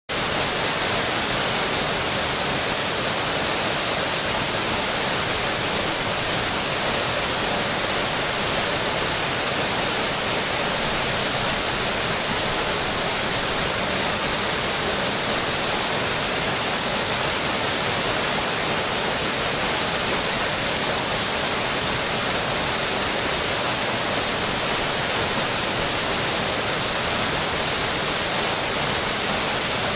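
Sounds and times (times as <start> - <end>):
waterfall rushing: 0.1 - 29.9.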